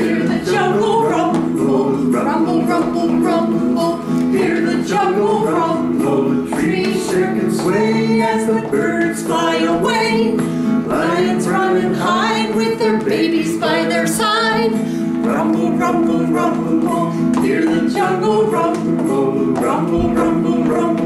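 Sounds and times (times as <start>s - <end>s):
children's song singing voices: 0.0s - 21.0s
instrumental accompaniment: 0.0s - 21.0s.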